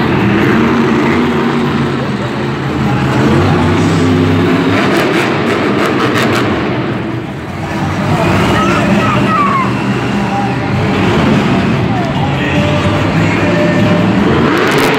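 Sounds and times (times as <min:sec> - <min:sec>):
monster truck engine revving: 0:00.0 - 0:14.9.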